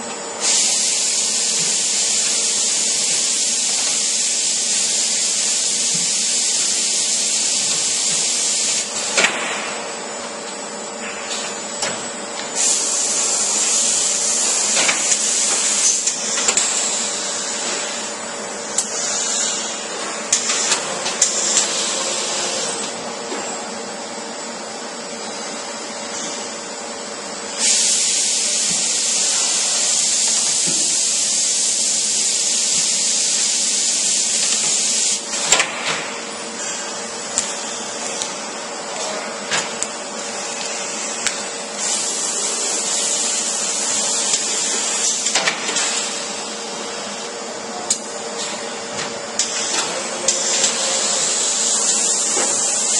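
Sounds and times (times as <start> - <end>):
loud machine hiss: 0.0 - 52.9.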